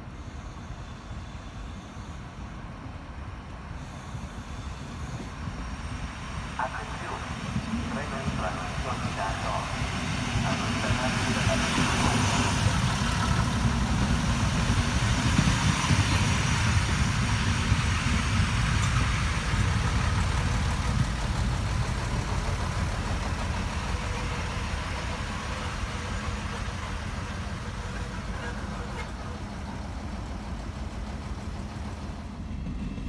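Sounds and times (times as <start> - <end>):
train rumbling with hiss: 0.0 - 33.0.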